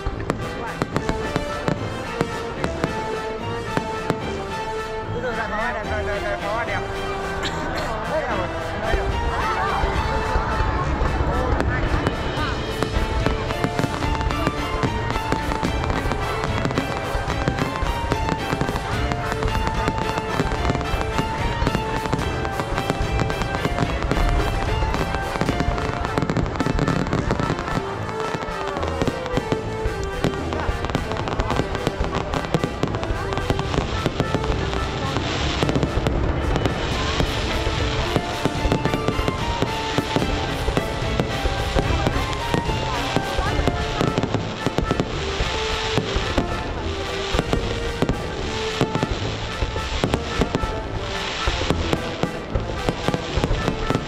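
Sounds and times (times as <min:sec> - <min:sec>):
fireworks bangs and crackles: 0:00.0 - 0:54.0
melody of held notes: 0:00.0 - 0:54.0.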